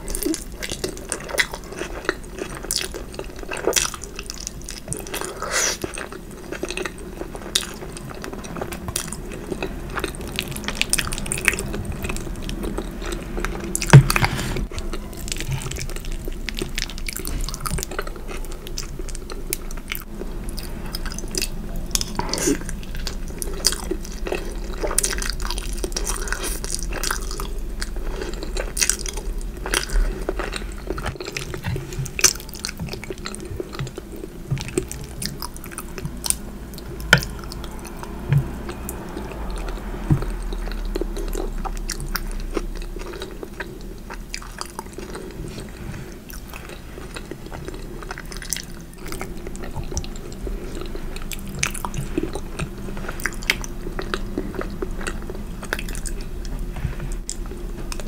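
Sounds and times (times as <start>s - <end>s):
low steady hum: 0.0s - 58.0s
person chewing food: 0.0s - 58.0s.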